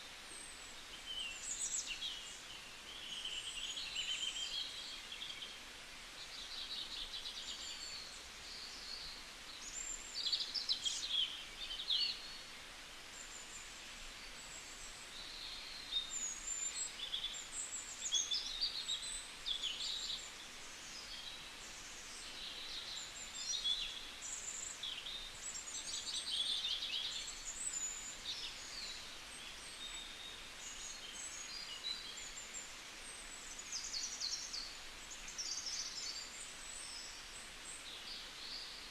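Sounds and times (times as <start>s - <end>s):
small birds chirping and trilling: 0.0s - 38.9s
steady background hiss: 0.0s - 38.9s.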